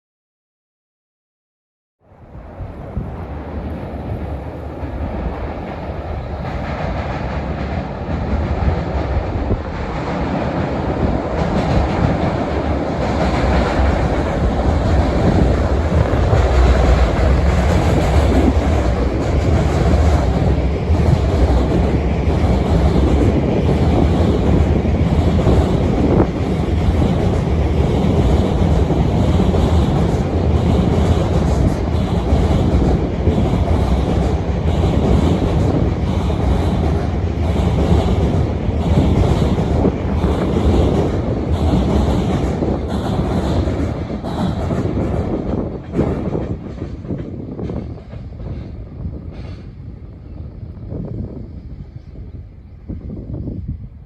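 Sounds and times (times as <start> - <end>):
freight train rumble: 2.0 - 54.0.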